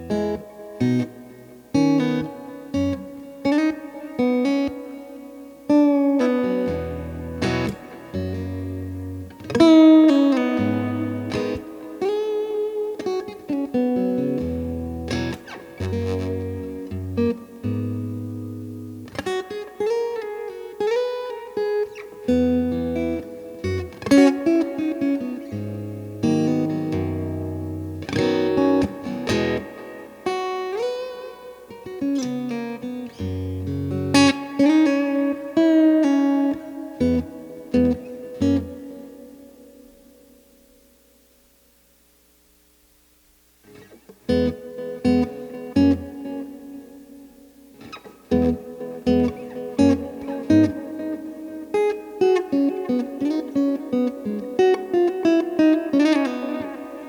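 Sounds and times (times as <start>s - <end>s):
electric guitar with delay and reverb: 0.0s - 41.5s, 43.6s - 57.0s.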